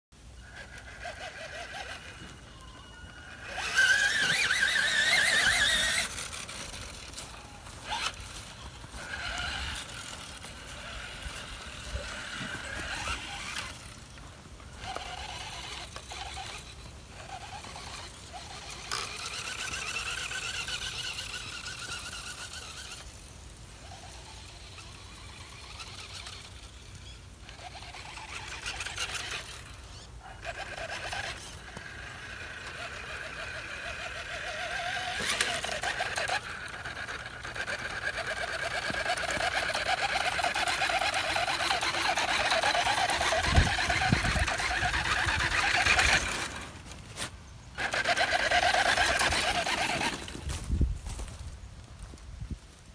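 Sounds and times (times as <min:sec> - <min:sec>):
electric motor and gears whining: 0:00.2 - 0:52.9
tyres churning snow: 0:00.2 - 0:52.9.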